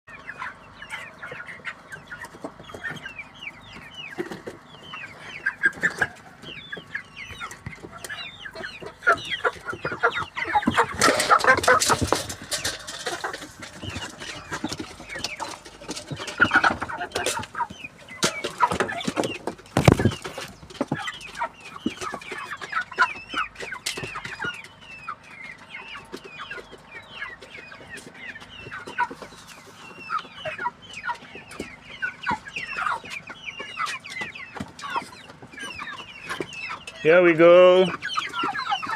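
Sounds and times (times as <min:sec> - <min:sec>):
chickens clucking and peeping: 0:00.1 - 0:38.9.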